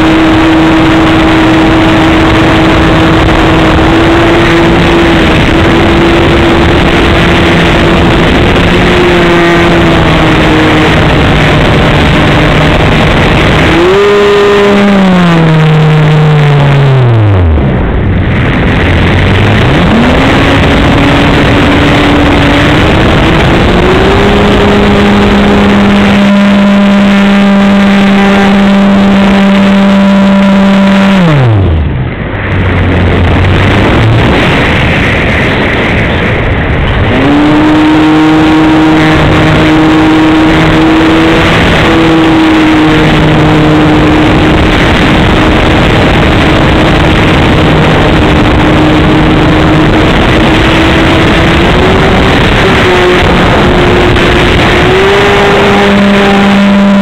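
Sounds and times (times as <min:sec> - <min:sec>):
electric motor propeller whine: 0:00.0 - 0:35.0, 0:35.8 - 0:57.0
wind rush on microphone: 0:00.0 - 0:57.0.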